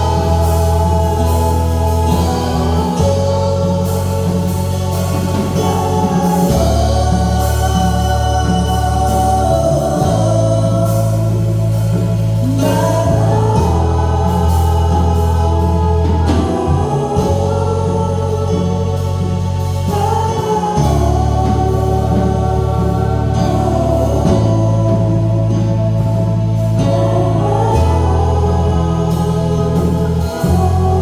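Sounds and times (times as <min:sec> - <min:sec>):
choir singing a hymn: 0:00.0 - 0:31.0
organ bass chords: 0:00.0 - 0:31.0.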